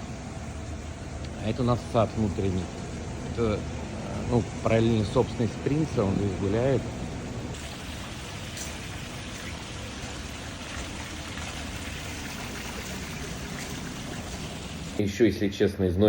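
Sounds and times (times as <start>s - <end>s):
falling splashing water: 1.4s - 15.0s.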